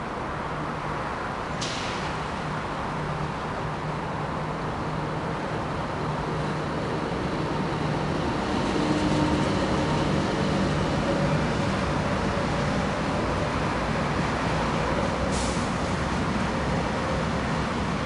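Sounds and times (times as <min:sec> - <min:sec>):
electric locomotive hum and rumble: 0:00.0 - 0:18.0
road traffic: 0:00.0 - 0:18.0.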